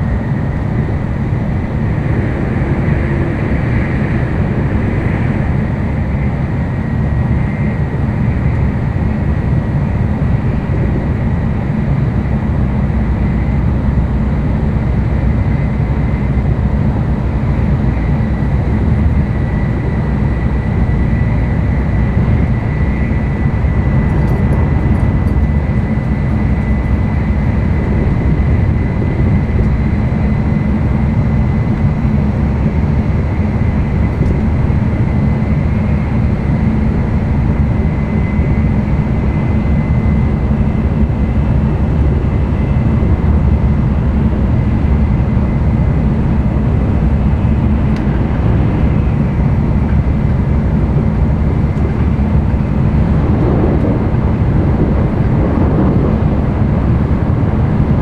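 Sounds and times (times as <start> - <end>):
train interior rumble: 0.0 - 58.0.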